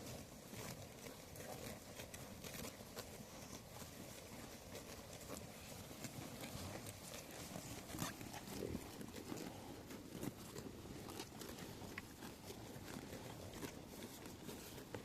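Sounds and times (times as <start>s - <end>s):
hooves clicking: 0.0s - 15.0s
faint sheep sounds: 1.4s - 15.0s.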